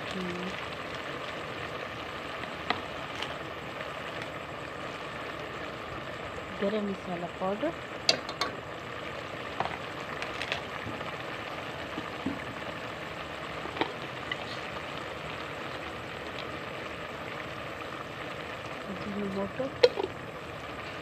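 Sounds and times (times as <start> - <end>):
curry boiling in metal pot: 0.0 - 21.0.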